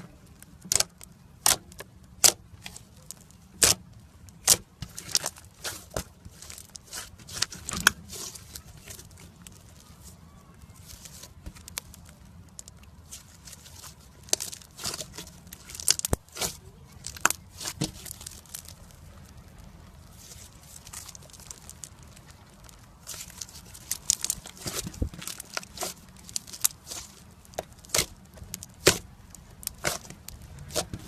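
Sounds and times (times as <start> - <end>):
hands squishing slime: 0.0 - 31.0
air pockets popping in slime: 0.1 - 31.0.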